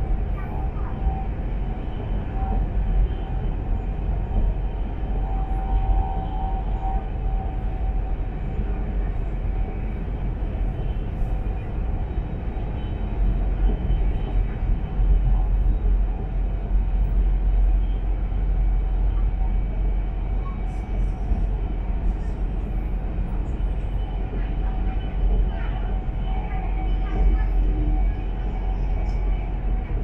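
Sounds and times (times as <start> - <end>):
train rumbling inside carriage: 0.0 - 30.0.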